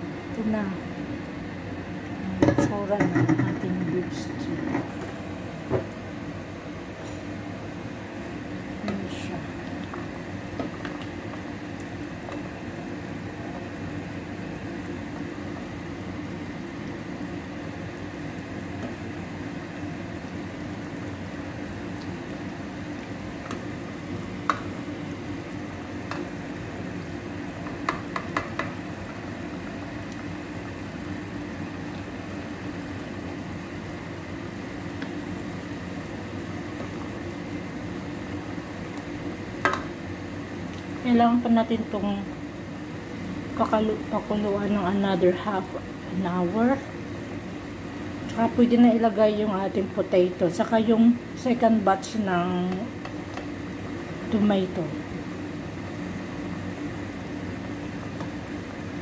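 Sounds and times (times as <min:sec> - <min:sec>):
stew bubbling in a pot: 0:00.0 - 0:59.0.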